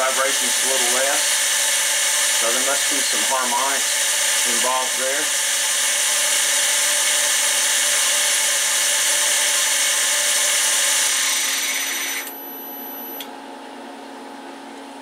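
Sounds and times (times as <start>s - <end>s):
mill motor whining: 0.0s - 13.3s.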